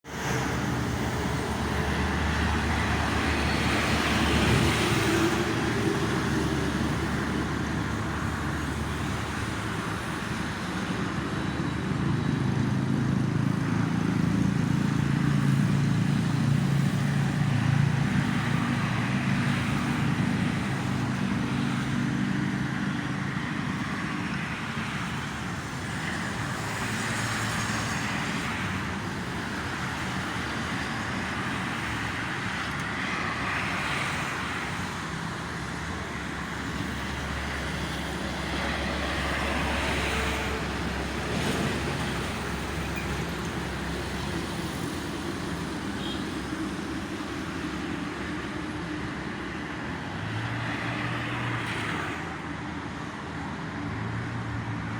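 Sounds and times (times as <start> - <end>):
traffic passing: 0.0 - 54.9.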